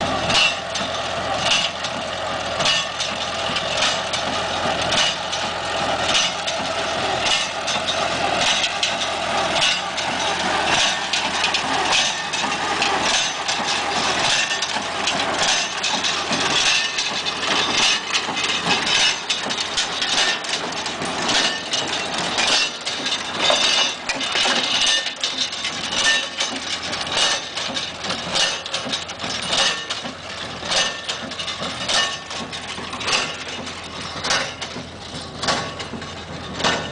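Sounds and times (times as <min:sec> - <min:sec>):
baler clanking: 0:00.0 - 0:36.9
tractor engine running: 0:00.0 - 0:36.9.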